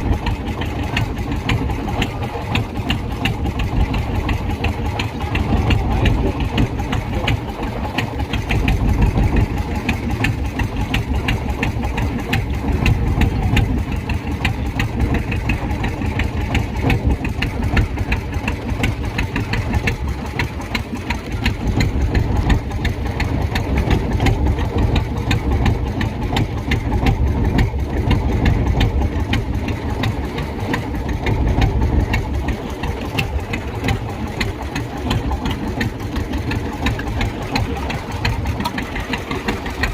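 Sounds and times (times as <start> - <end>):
boat engine knocking: 0.0 - 39.9.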